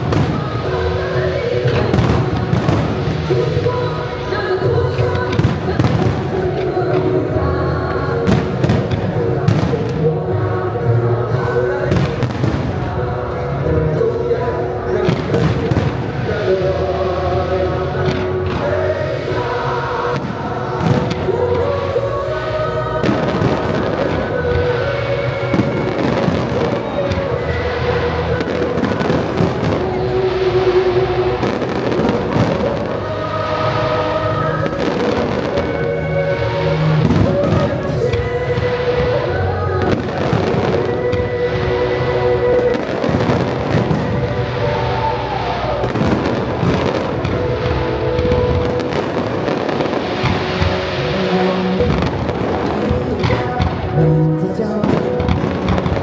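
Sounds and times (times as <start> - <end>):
fireworks bangs and crackles: 0.0 - 56.0
music soundtrack: 0.0 - 56.0.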